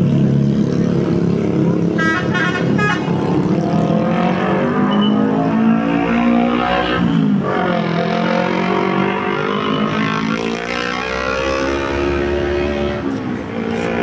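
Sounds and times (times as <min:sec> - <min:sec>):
bus engine revving: 0:00.0 - 0:14.0.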